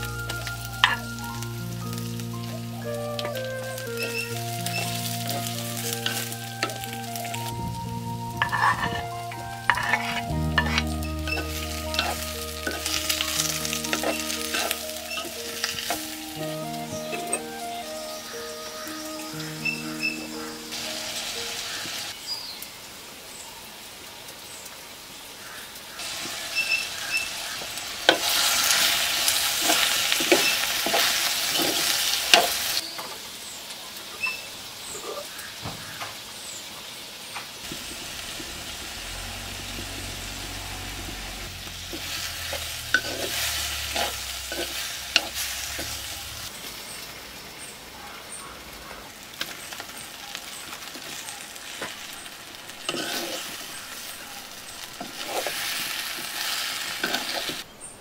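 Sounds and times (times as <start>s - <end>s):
vegetables sizzling in a pot: 0.0s - 58.0s.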